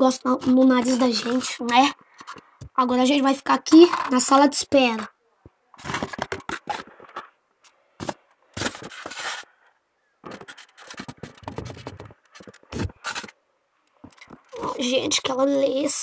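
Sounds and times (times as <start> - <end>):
plastic containers and cardboard handled: 0.0 - 9.6, 10.2 - 15.3.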